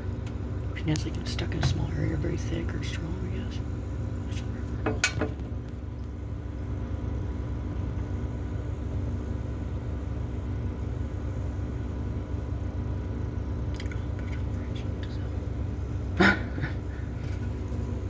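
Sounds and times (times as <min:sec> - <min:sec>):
faint hum tones: 0:00.0 - 0:18.0.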